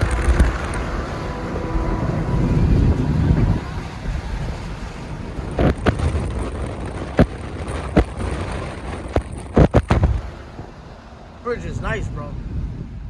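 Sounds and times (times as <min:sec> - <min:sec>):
vehicle road and wind rumble: 0:00.0 - 0:13.0.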